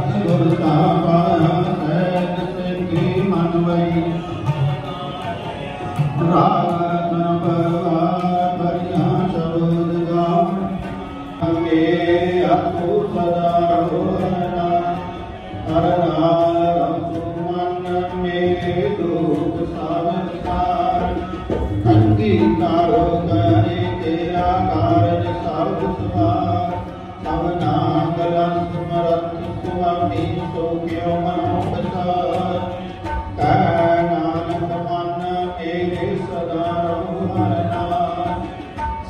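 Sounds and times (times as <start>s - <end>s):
harmonium tones: 0.0s - 39.0s
person singing devotional song: 0.0s - 39.0s
tabla beats: 0.0s - 39.0s.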